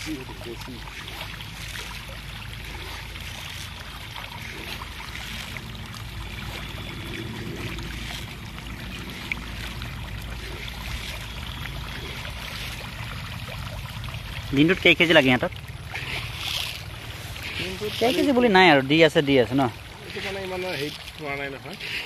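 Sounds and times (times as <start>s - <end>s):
fish thrashing and splashing water: 0.0s - 22.0s.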